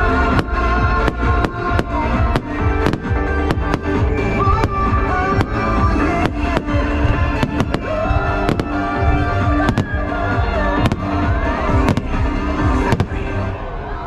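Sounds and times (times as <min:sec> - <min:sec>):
fireworks bangs: 0:00.0 - 0:13.6
loud pop music: 0:00.0 - 0:13.6.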